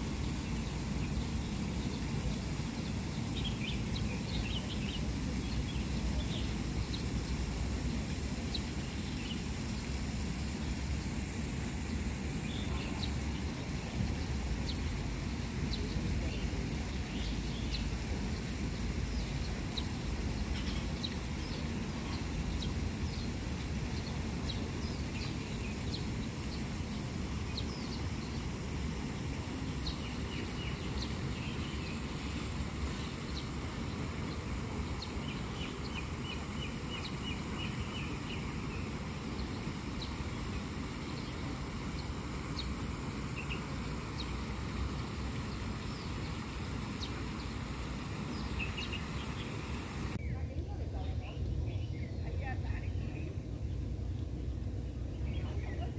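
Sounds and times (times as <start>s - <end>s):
birds chirping: 0.0s - 53.8s, 55.1s - 55.9s
low outdoor rumble: 0.0s - 55.9s.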